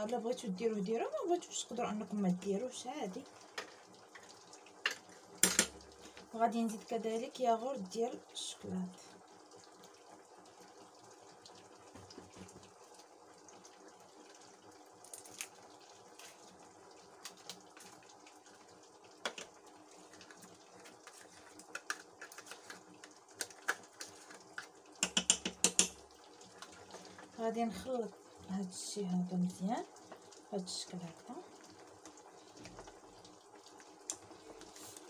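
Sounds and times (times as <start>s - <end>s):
faint steady background hum: 0.0s - 35.0s.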